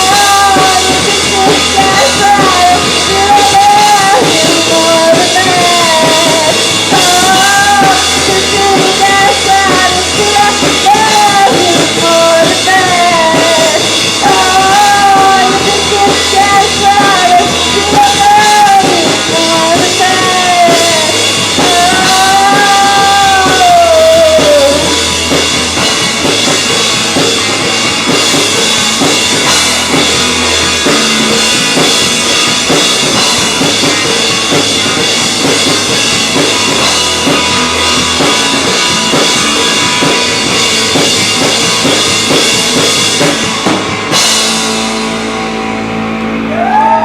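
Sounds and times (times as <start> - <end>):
drum kit beat: 0.0 - 47.0
rock band playing: 0.0 - 47.0.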